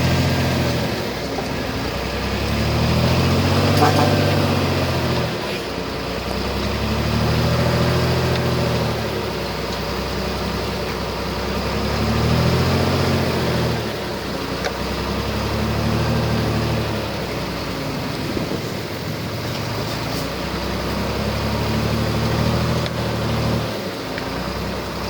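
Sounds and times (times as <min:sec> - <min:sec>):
earthmoving diesel engine working: 0:00.0 - 0:25.0.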